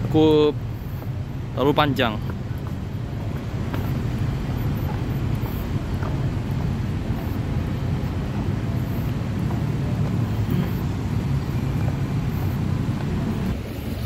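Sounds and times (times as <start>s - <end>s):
road traffic noise: 0.0s - 14.0s
wind on microphone: 2.2s - 14.0s.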